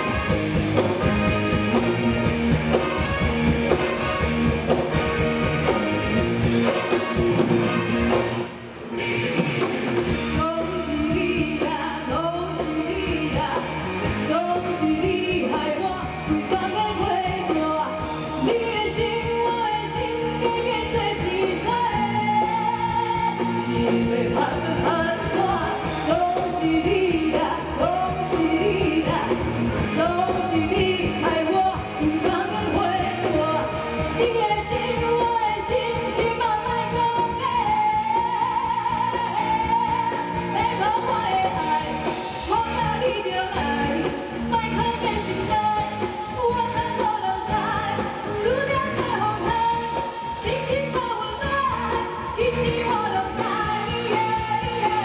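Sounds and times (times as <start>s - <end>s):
amplified backing music: 0.0s - 55.0s
woman singing into a microphone: 10.2s - 55.0s.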